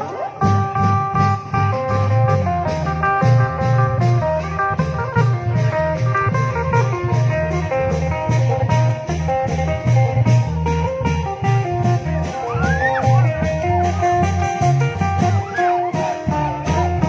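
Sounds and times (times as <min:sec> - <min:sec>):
plucked string melody: 0:00.0 - 0:17.0
long drums beating: 0:00.4 - 0:17.0.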